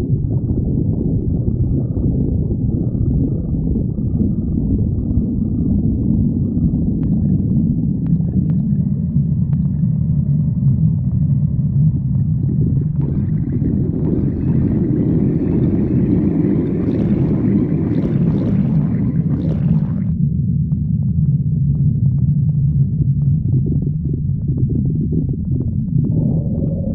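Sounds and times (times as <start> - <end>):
stomach growling rumble: 0.0 - 26.9.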